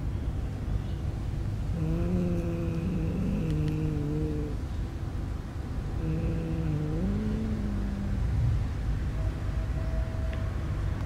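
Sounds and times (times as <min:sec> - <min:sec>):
faint steady whine: 0:00.0 - 0:11.0
road traffic rumble: 0:00.0 - 0:11.0
vehicle engine hum: 0:00.0 - 0:11.0.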